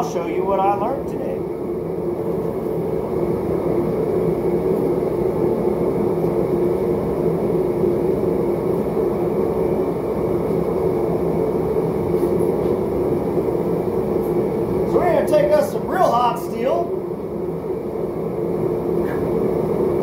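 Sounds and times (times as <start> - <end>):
gas forge burner rushing: 0.0 - 20.0.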